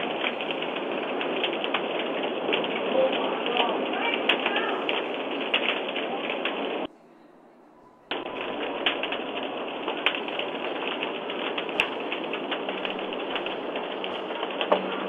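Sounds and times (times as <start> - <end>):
house fire crackling and popping: 0.0 - 6.9, 8.0 - 15.0.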